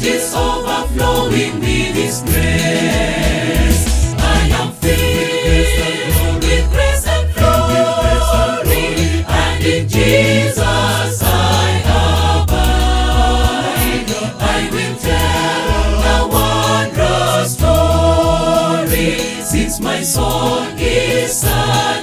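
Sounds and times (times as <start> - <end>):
choir singing a gospel hymn: 0.0 - 22.0
deep bass line: 0.8 - 18.6.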